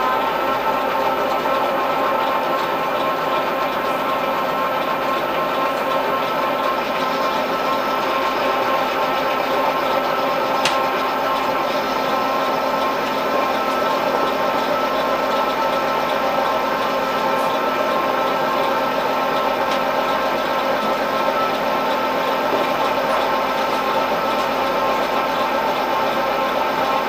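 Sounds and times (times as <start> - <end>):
milling machine whining: 0.0 - 27.0.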